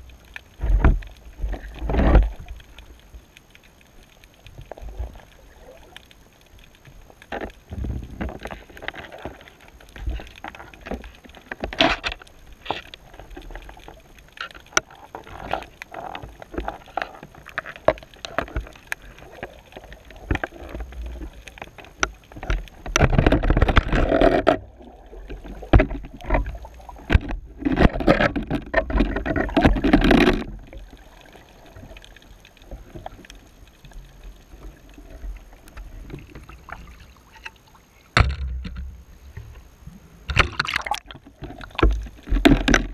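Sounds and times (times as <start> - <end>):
underwater clicks and knocks: 0.0 - 3.6, 4.2 - 42.9
rushing water: 0.0 - 42.9.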